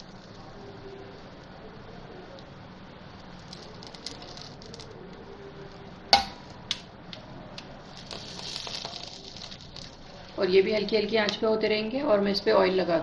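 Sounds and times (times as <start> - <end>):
soft sizzle: 0.0 - 13.0
steady low hiss: 0.0 - 13.0.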